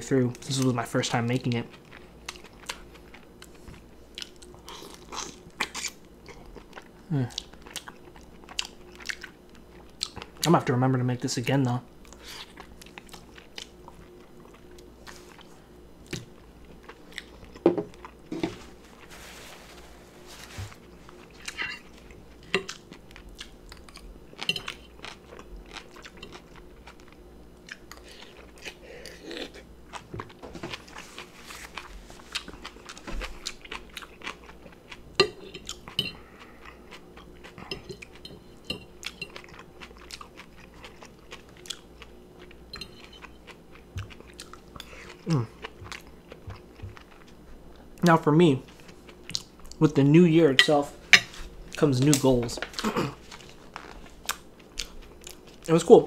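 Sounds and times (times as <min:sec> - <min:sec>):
person chewing and crunching: 0:00.3 - 0:10.5, 0:12.0 - 0:49.9, 0:50.6 - 0:55.8.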